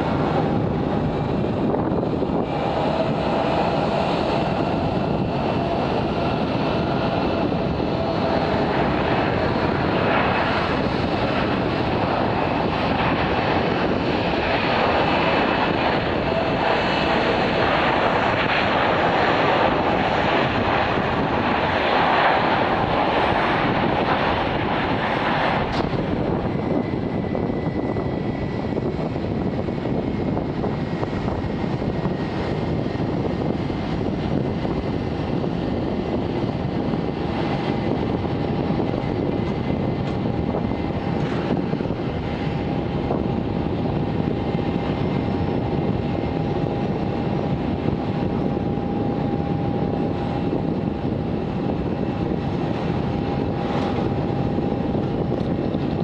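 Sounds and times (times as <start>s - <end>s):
jet engines rumbling: 0.0s - 56.0s
lower whine: 0.0s - 56.0s.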